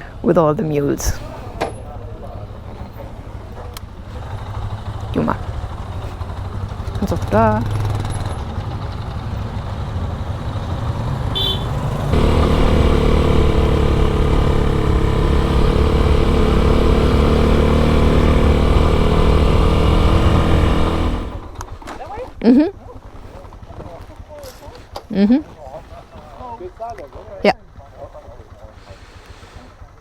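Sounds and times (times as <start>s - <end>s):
motorcycle engine running: 1.2s - 30.0s.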